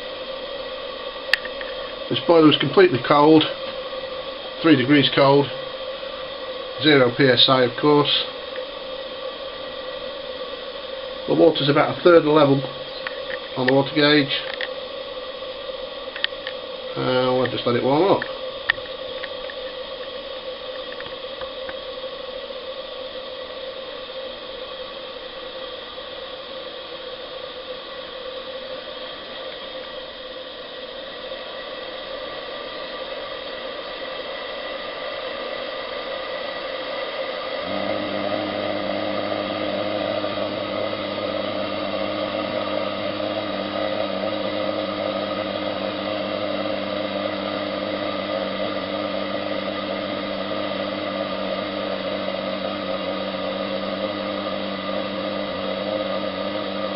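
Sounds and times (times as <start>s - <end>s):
gas burner hissing: 0.0s - 56.9s
low steady hum: 0.0s - 56.9s.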